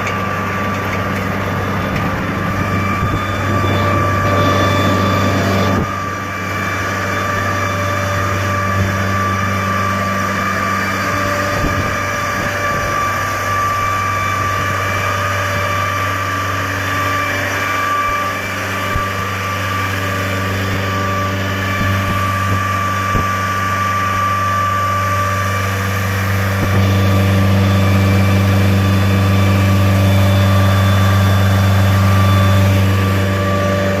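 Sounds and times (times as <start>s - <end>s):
diesel engine running: 0.0s - 34.0s
steady high tone: 0.1s - 34.0s.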